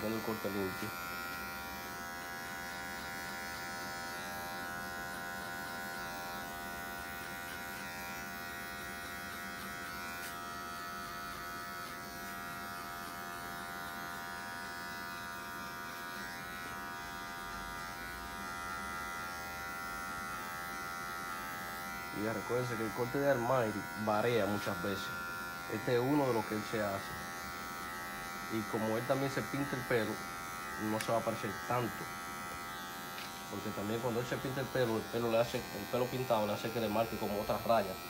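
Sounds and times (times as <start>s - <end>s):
electric hair clippers buzzing: 0.0s - 38.0s.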